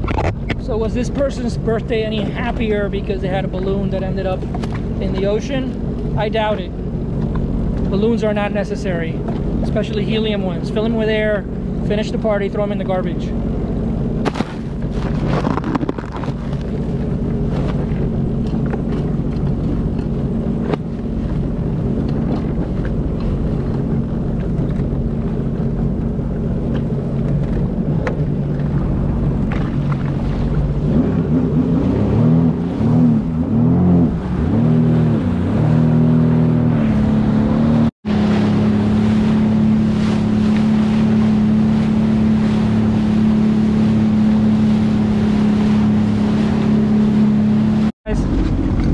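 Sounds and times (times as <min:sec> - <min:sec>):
wind on microphone: 0:00.0 - 0:11.8, 0:13.3 - 0:48.9
water rushing: 0:00.0 - 0:48.9
watercraft engine humming: 0:00.0 - 0:48.9.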